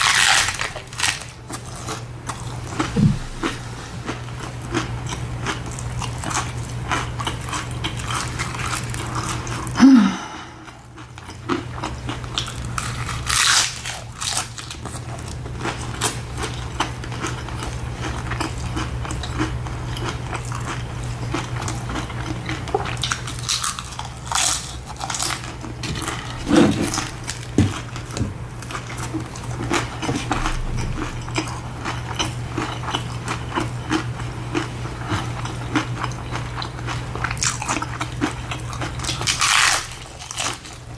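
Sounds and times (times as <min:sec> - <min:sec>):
crunchy bites and chewing: 0:00.0 - 0:09.8, 0:10.4 - 0:40.9
steady low hum: 0:00.0 - 0:40.9.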